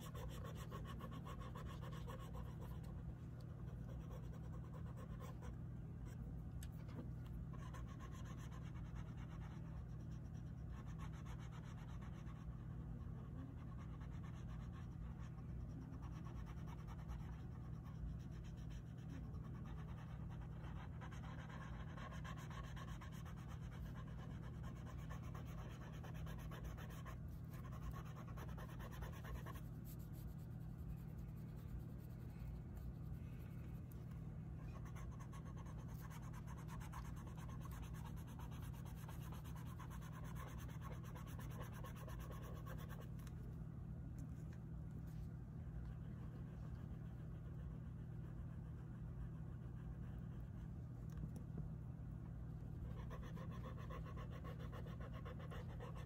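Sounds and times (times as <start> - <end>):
oil pastel scratching on paper: 0.0 - 33.6, 34.6 - 43.4, 52.7 - 56.0
steady low hum: 0.0 - 56.0.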